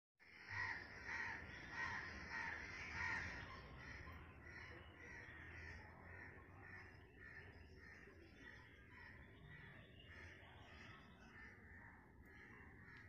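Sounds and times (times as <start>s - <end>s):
crows cawing: 0.2s - 13.0s.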